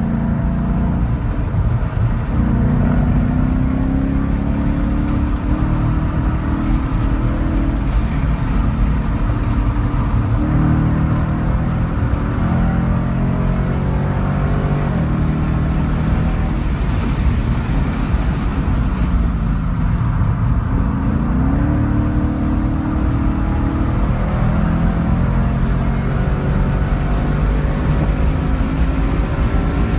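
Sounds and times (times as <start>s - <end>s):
car engine running hard: 0.0s - 29.9s
wind noise: 0.0s - 29.9s.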